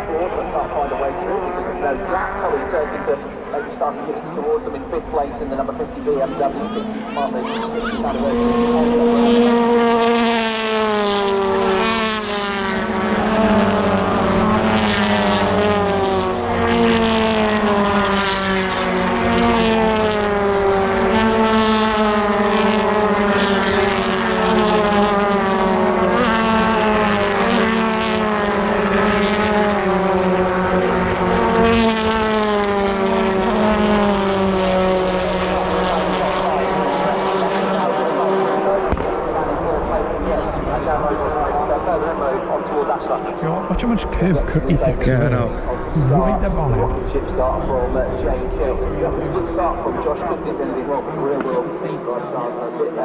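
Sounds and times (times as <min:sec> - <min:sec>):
racing cars passing at speed: 0:00.0 - 0:53.0.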